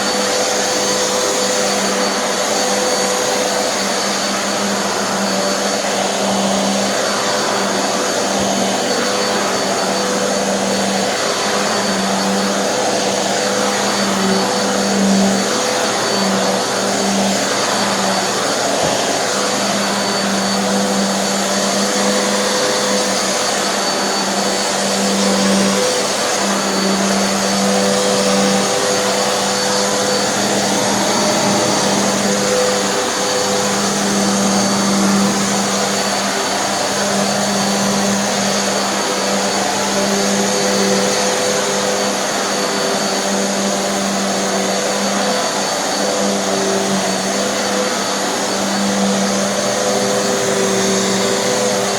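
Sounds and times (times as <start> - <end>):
vacuum cleaner whirring: 0.0 - 51.9.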